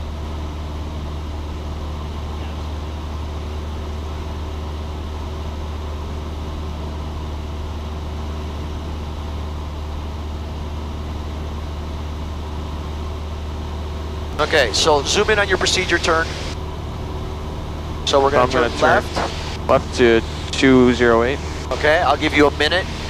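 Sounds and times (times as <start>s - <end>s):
airplane engine and propeller drone: 0.0s - 23.0s.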